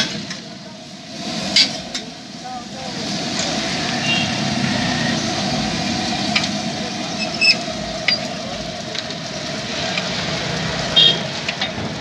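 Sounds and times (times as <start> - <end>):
food frying on griddle: 0.0 - 12.0.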